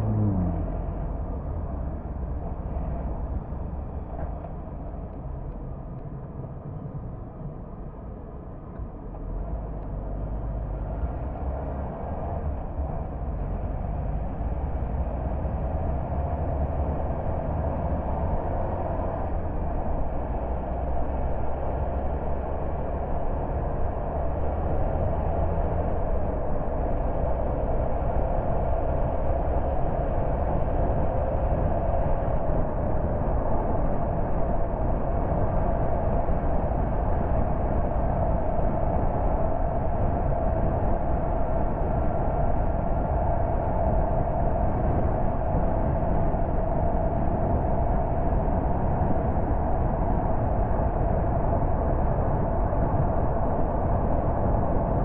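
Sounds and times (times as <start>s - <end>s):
car engine hum: 0.0s - 55.0s
road and tyre noise: 0.0s - 55.0s.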